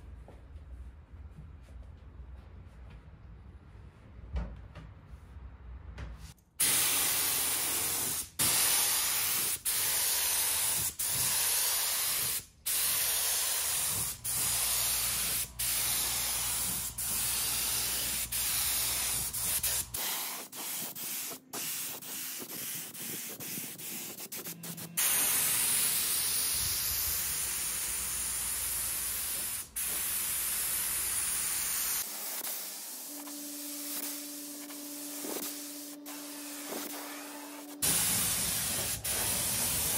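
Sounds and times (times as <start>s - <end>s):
spray gun hissing: 6.6s - 39.9s.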